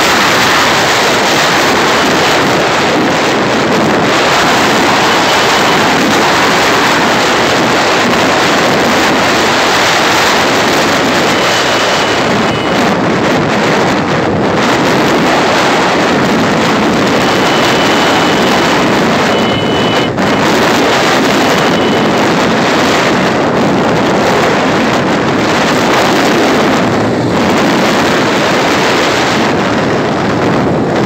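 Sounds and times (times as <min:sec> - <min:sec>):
road and engine noise: 0:00.0 - 0:31.0
wind rushing over microphone: 0:00.0 - 0:31.0.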